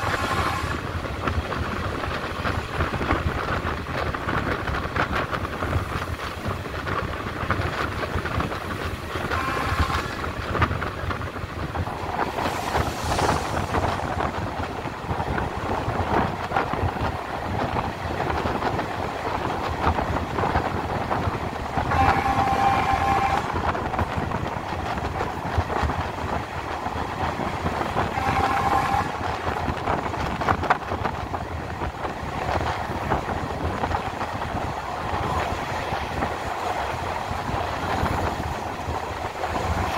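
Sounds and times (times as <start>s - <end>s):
train wheels clattering on track: 0.0s - 39.9s.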